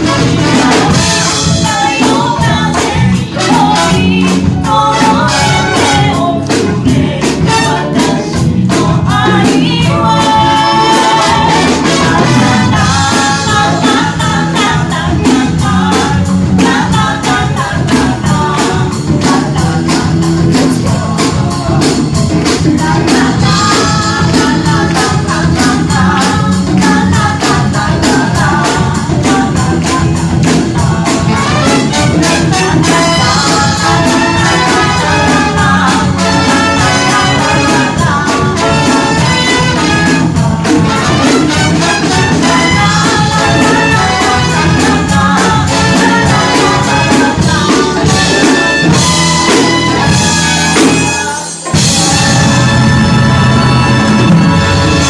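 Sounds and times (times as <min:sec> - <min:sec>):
percussion beat: 0:00.0 - 0:55.0
person singing: 0:00.0 - 0:55.0.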